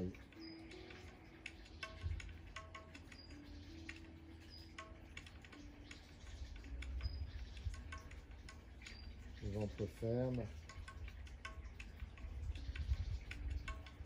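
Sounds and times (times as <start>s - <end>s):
slow background music: 0.0s - 14.0s.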